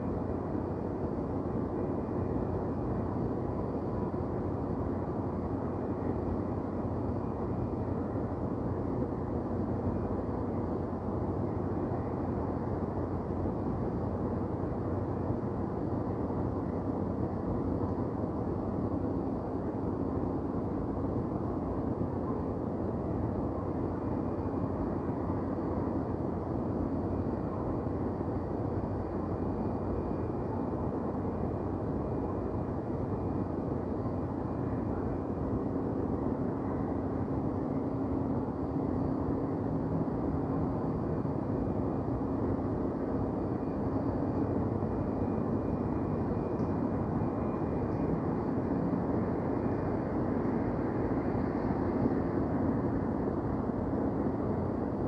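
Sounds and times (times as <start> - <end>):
faint constant hum: 0.0 - 55.0.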